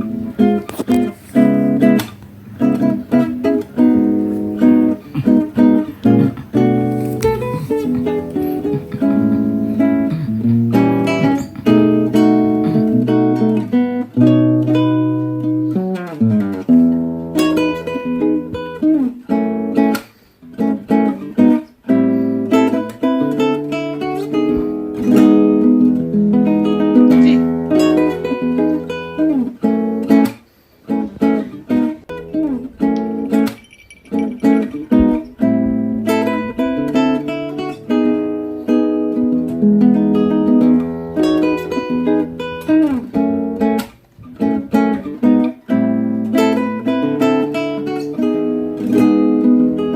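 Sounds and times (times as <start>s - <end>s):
acoustic guitar music: 0.0s - 49.9s.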